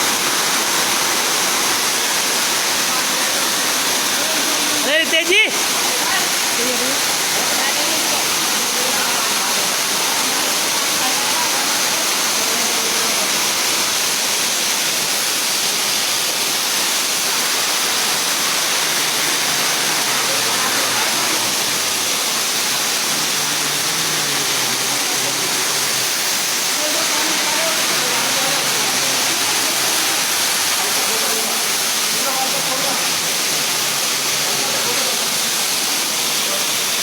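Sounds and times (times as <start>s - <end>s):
water rushing through pipe: 0.0s - 37.0s.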